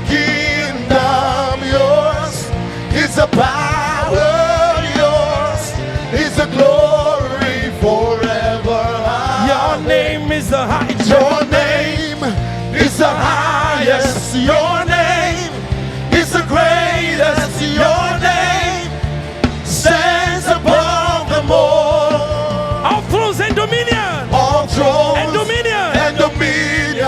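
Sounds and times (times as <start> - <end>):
band with bass and drums: 0.0 - 27.0.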